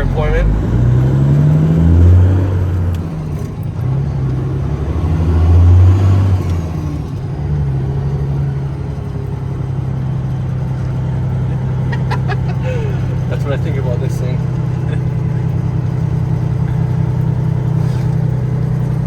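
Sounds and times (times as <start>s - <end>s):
truck diesel engine shifting gears: 0.0s - 19.0s.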